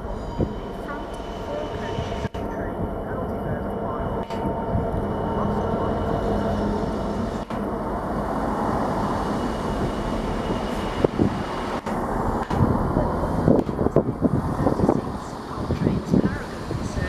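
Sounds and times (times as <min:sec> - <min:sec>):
low hum: 0:00.0 - 0:17.0
train rumbling: 0:00.0 - 0:17.0.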